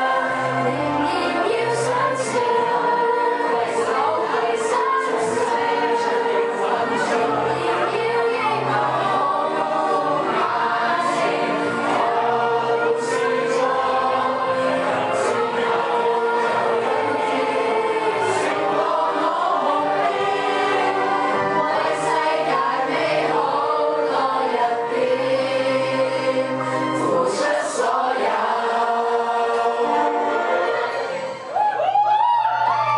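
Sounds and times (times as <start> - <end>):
girls singing together: 0.0 - 31.5.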